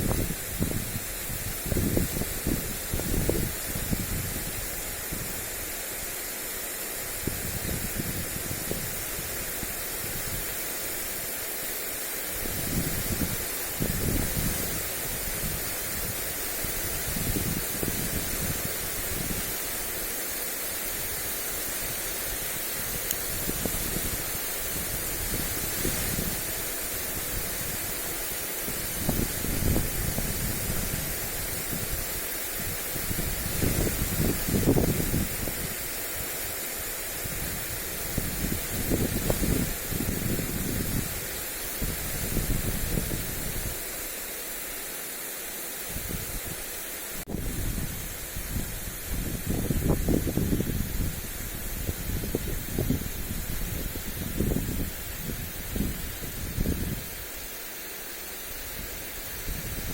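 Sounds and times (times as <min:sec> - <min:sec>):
wind buffeting microphone: 0:00.0 - 0:05.8, 0:07.1 - 0:10.6, 0:12.4 - 0:20.0, 0:21.0 - 0:43.8, 0:45.9 - 0:46.6, 0:47.2 - 0:57.4, 0:58.6 - 0:59.9
sprinkler spray hissing: 0:00.0 - 0:59.9.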